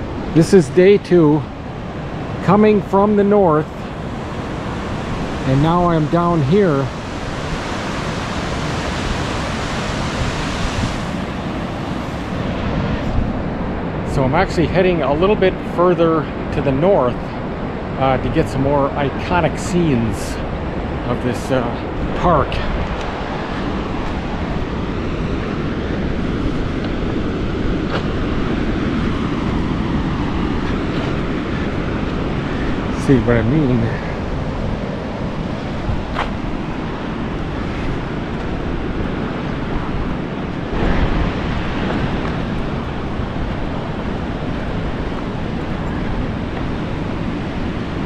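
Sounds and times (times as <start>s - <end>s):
ocean surf breaking: 0.0s - 48.0s
wind rumbling on microphone: 0.0s - 48.0s.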